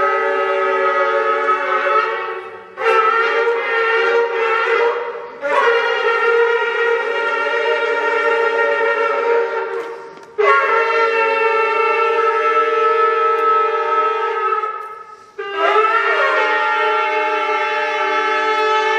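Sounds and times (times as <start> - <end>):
shofar blasts: 0.0 - 18.9.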